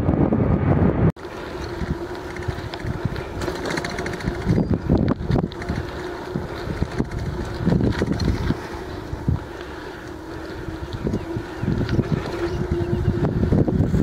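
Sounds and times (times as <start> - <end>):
wind on microphone: 0.0 - 14.0
bicycle mechanical rattle: 1.2 - 14.0.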